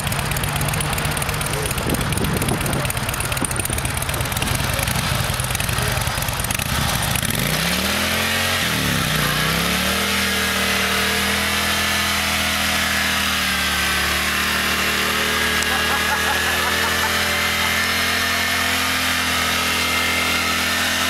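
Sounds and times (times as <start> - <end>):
motorcycle engine revving: 0.0 - 21.0
tire spinning in burnout: 0.0 - 21.0.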